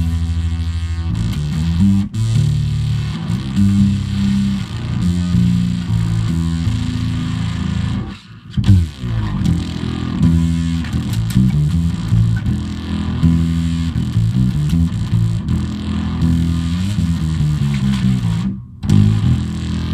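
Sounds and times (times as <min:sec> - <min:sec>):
distorted electric bass notes: 0:00.0 - 0:19.9.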